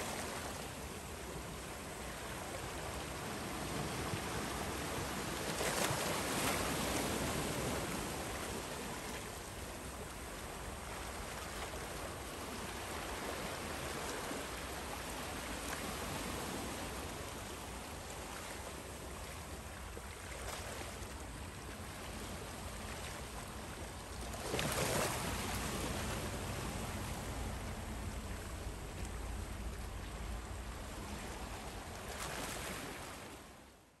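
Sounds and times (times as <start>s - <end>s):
wind: 0.0s - 34.0s
water rushing: 6.2s - 33.6s.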